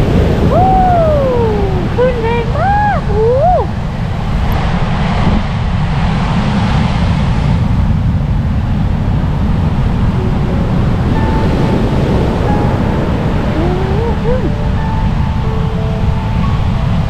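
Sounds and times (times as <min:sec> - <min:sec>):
sea surf breaking on shore: 0:00.0 - 0:17.0
wind buffeting microphone: 0:00.0 - 0:17.0.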